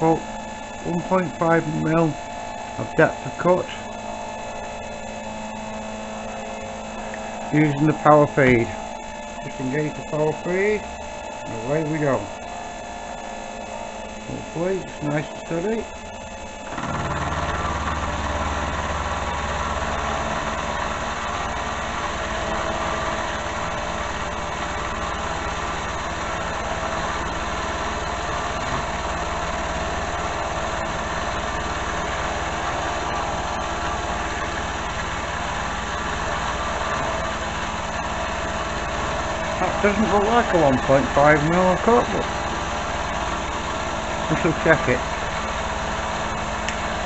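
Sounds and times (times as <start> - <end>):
metal lathe cutting drone: 0.0 - 47.0.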